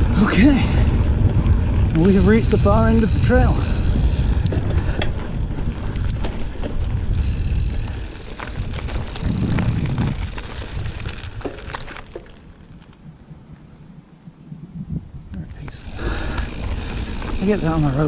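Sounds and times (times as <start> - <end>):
bike clicks and rattles: 0.0 - 13.6, 15.4 - 18.0
bike rolling on dirt trail: 0.0 - 18.0
wind rumbling on microphone: 0.0 - 18.0.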